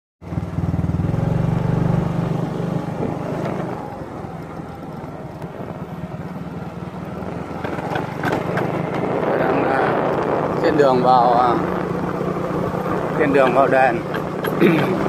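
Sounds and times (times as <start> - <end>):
road and wind noise: 0.2 - 15.0
small motorbike engine running: 0.3 - 15.0.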